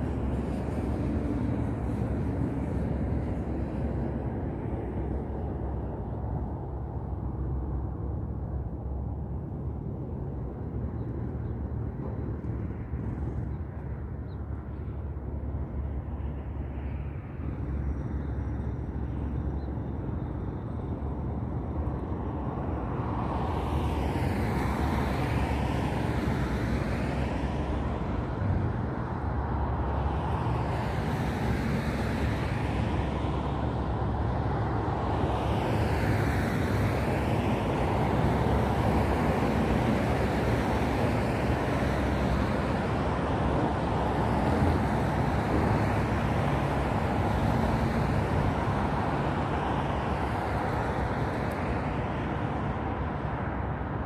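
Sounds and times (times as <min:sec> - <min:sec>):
cars passing: 0:00.0 - 0:54.0
low traffic rumble: 0:00.0 - 0:54.0.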